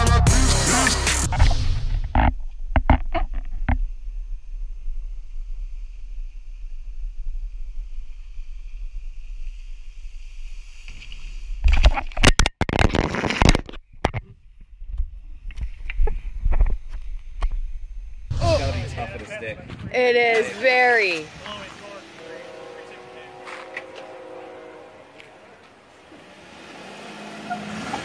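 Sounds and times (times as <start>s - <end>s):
faint steady whine: 1.4s - 12.2s, 13.9s - 26.4s.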